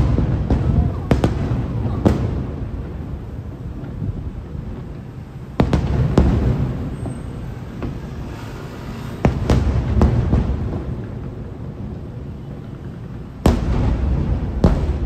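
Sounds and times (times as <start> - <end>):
distant firework bangs: 0.0 - 15.0.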